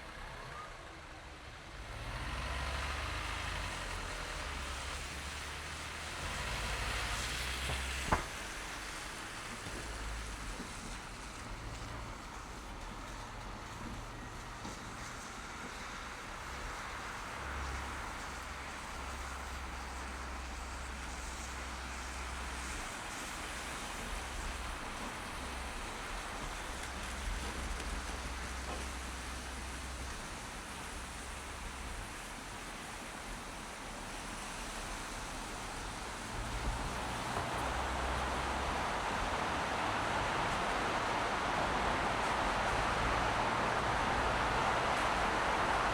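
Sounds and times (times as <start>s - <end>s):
tyre and road noise: 0.0s - 45.9s.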